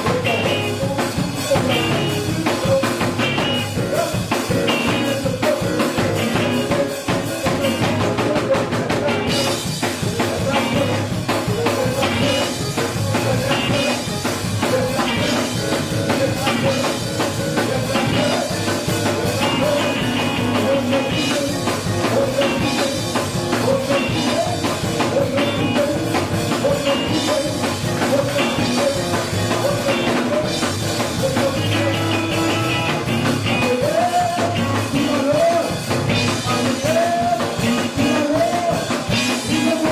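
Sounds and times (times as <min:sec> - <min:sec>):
drum kit: 0:00.0 - 0:39.9
guitar: 0:00.0 - 0:39.9
live band music: 0:00.0 - 0:39.9
person singing: 0:00.0 - 0:39.9.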